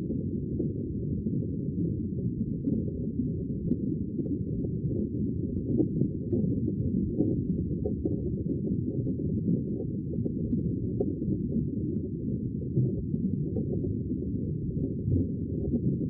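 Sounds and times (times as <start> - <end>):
sea water low rumble: 0.0 - 16.0.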